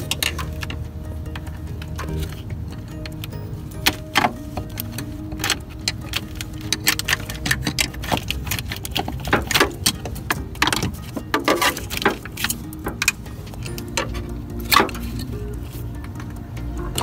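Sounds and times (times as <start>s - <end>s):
plastic rattles: 0.0s - 17.0s.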